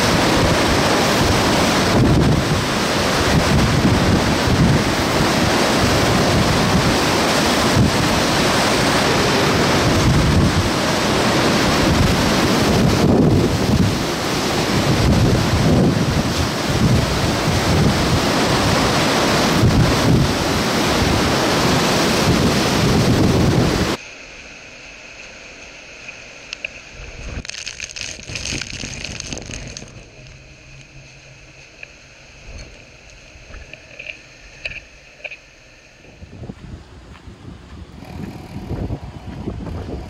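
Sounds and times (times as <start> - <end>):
wind roaring and buffeting microphone: 0.0 - 24.0, 26.7 - 40.0.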